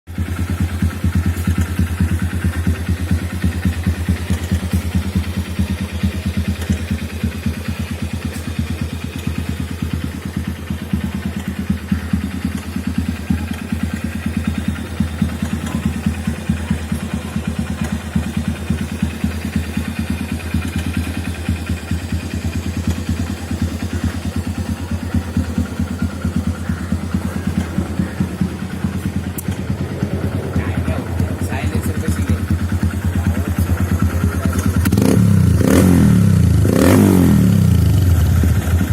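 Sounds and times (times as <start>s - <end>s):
motorcycle engine idling: 0.1s - 38.9s.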